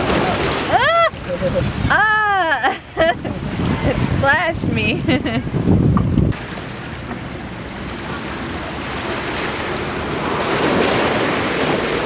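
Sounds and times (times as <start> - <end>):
small waves lapping on concrete: 0.0 - 5.4, 6.0 - 12.0.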